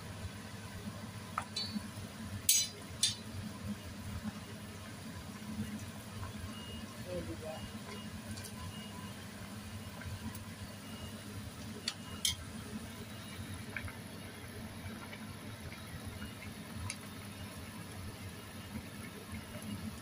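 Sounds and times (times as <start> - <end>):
pot of broth simmering: 0.1 - 20.0.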